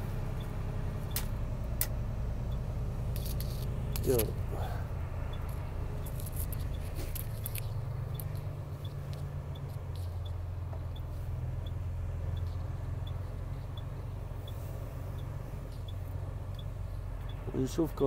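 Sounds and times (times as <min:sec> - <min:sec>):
truck engine rumbling: 0:00.0 - 0:18.0
turn signal ticking: 0:00.0 - 0:18.0.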